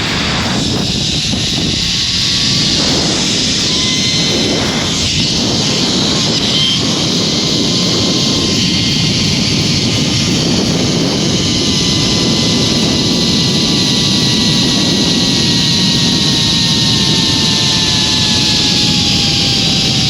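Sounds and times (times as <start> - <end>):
wind on microphone: 0.0 - 20.0
zip line pulleys whining on cable: 0.0 - 20.0.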